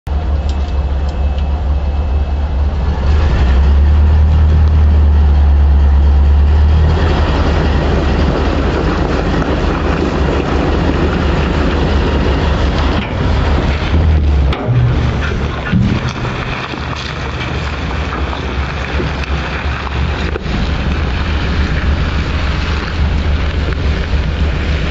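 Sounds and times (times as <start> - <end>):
truck engine straining: 0.0 - 24.9
wheels spinning on mud: 1.5 - 24.9.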